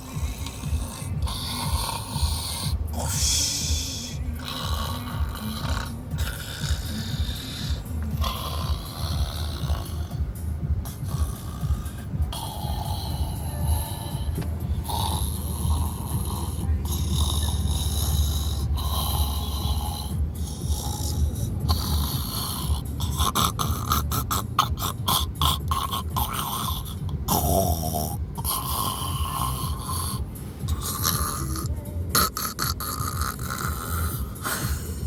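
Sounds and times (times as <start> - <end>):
snoring: 0.0 - 35.0.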